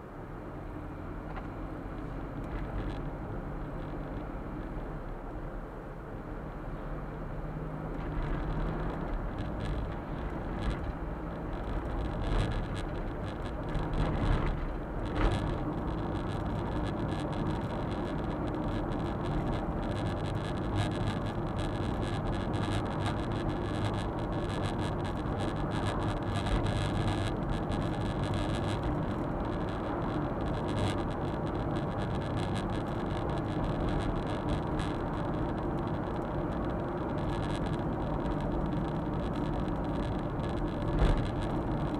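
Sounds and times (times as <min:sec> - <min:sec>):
truck engine hum: 0:00.0 - 0:41.9.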